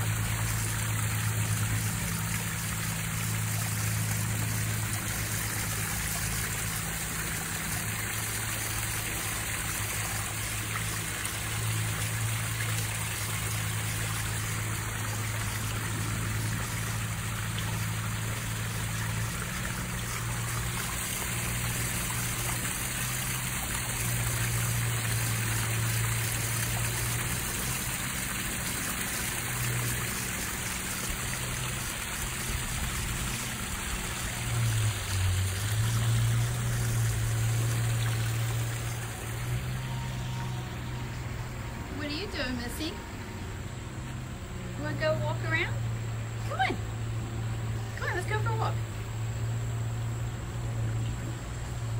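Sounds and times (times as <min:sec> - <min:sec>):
low drone: 0:00.0 - 0:51.9
waterfall splashing into pond: 0:00.0 - 0:51.9.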